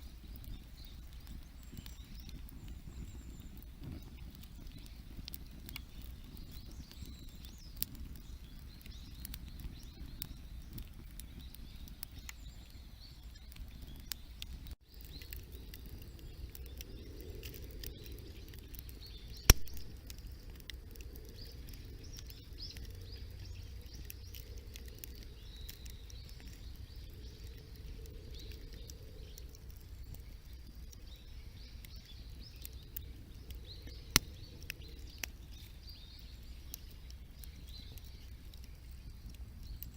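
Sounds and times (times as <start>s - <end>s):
campfire crackling: 0.0s - 39.9s
low outdoor rumble: 0.0s - 39.9s.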